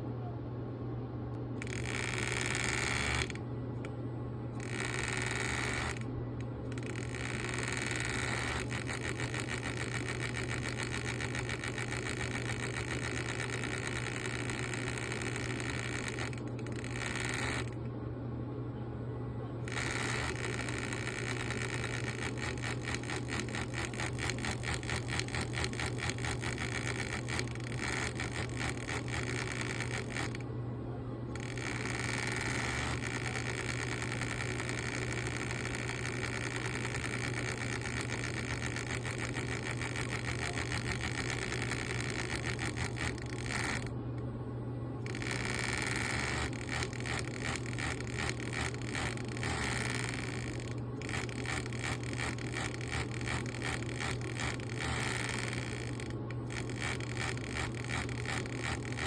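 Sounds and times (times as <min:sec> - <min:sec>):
low motor hum: 0:00.0 - 0:59.0.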